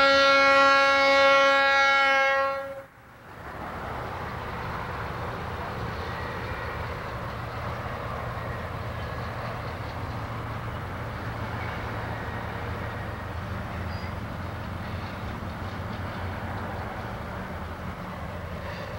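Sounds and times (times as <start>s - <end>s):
diesel engine drone: 3.0s - 18.9s.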